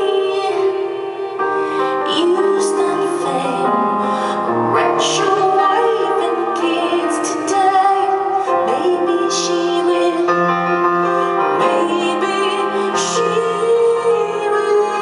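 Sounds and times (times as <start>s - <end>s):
piano and keyboard: 0.0s - 15.0s
woman singing: 0.0s - 15.0s.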